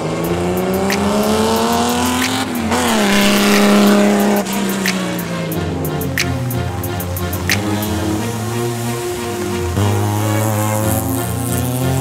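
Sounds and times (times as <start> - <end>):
car engine accelerating: 0.0 - 12.0
tyres hissing on wet track: 0.0 - 12.0.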